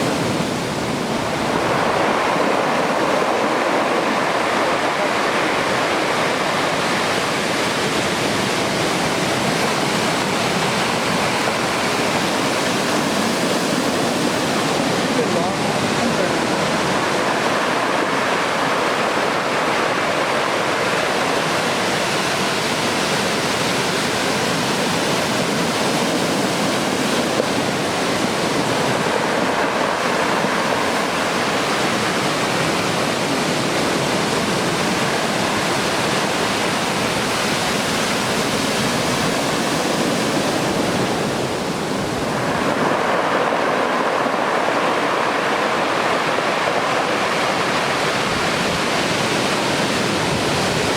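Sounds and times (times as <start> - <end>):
heavy surf breaking: 0.0 - 50.9.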